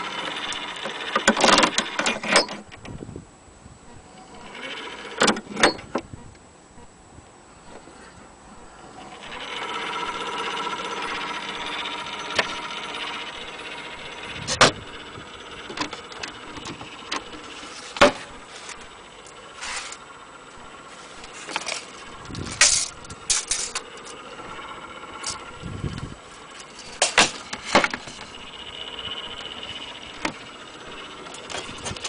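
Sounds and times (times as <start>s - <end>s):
gramophone spring motor whirring: 0.0s - 3.2s, 3.8s - 32.0s.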